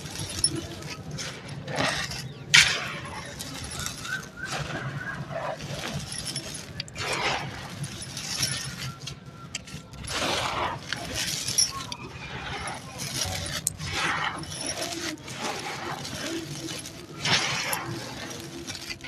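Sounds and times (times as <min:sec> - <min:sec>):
gritty crunches of crushed chunks: 0:00.0 - 0:19.0.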